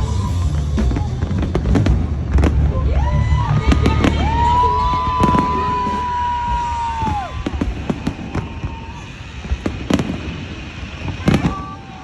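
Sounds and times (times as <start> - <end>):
low rumble: 0.0 - 11.2
fireworks bangs and crackles: 0.5 - 2.6, 3.8 - 12.0.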